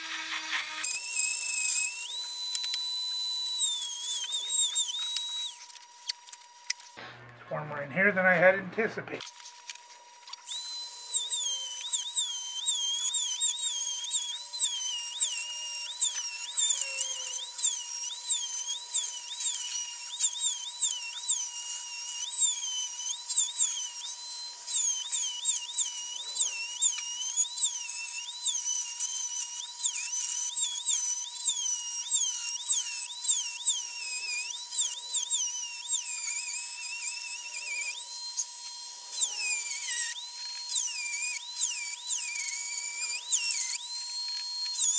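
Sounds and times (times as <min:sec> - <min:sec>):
rotary tool grinding metal: 0:00.0 - 0:07.0, 0:09.2 - 0:44.9.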